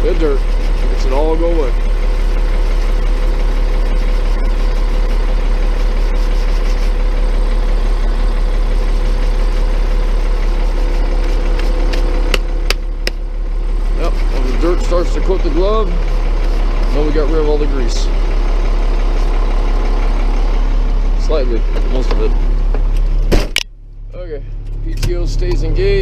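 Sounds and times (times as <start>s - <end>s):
constant hum: 0.0s - 26.0s
truck engine idling: 0.0s - 26.0s.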